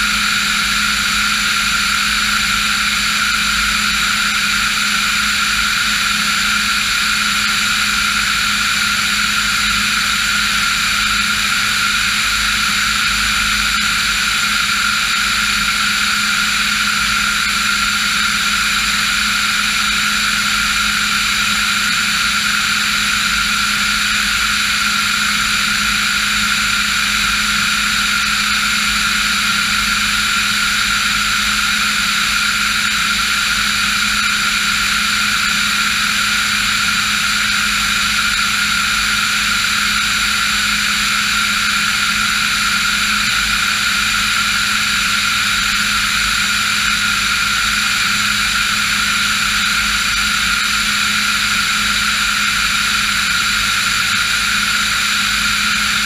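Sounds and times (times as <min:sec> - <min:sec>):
aircraft engine and propeller drone: 0:00.0 - 0:56.0.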